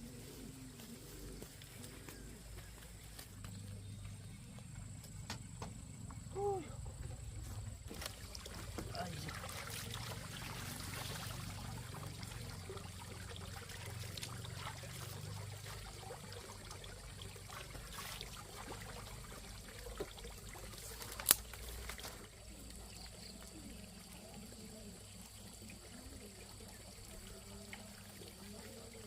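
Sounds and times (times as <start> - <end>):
water trickling: 1.4 - 29.0.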